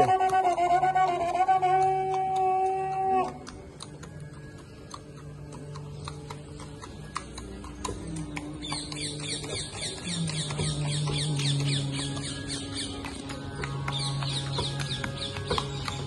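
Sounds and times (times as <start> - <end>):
hooves clip-clopping on pavement: 0.0 - 16.0.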